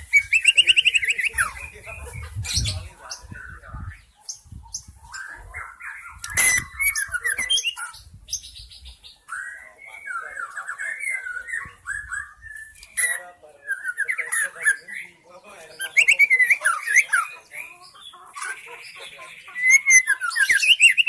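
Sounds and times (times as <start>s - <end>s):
bird singing whistles and chatter: 0.0s - 1.8s, 4.7s - 8.7s, 9.3s - 17.7s, 18.4s - 21.0s.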